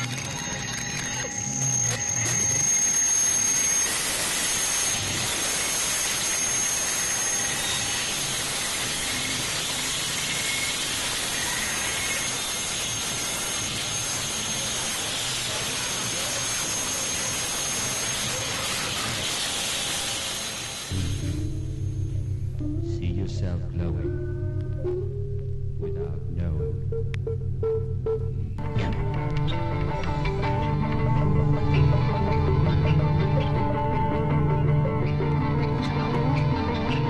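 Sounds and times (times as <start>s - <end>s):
faint high whine: 0.0s - 37.0s.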